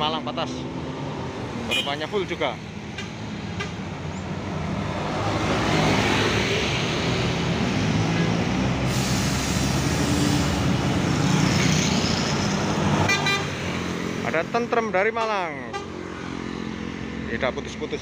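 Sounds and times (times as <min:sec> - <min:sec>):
coach diesel engine: 0:00.0 - 0:18.0
heavy road traffic: 0:00.0 - 0:18.0.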